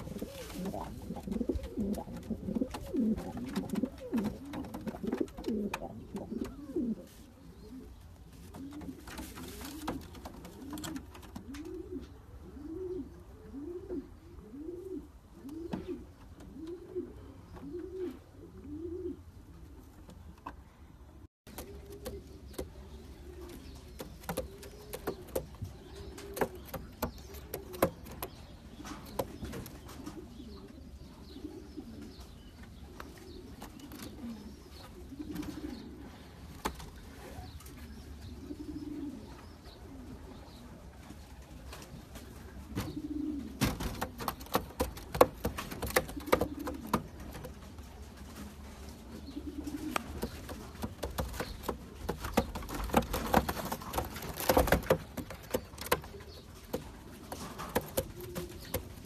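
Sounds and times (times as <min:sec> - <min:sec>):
pigeons cooing: 0:00.0 - 0:19.9, 0:21.5 - 0:40.9, 0:42.4 - 0:59.0.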